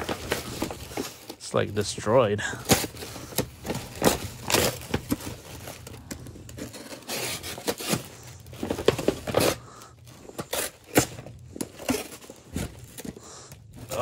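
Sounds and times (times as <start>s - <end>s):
cardboard crinkling: 0.0s - 14.0s.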